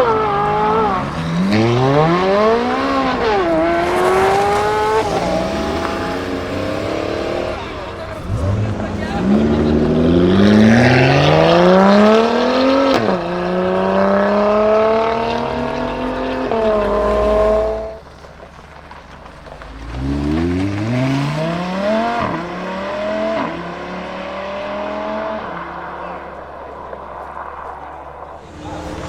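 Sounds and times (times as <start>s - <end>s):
car engine accelerating hard: 0.0s - 29.0s.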